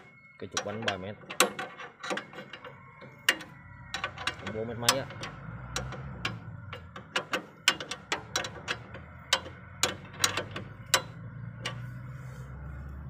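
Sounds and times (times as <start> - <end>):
metallic clicks of hand tools: 0.5 - 12.1.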